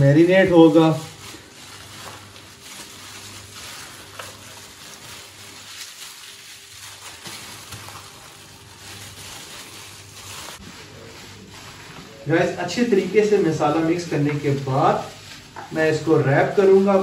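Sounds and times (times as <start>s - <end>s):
wet squelching of meat kneaded: 0.0s - 17.0s.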